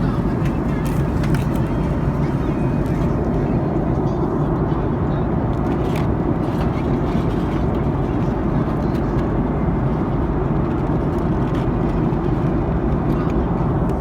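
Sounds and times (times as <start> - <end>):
airplane cabin roar: 0.0 - 14.0.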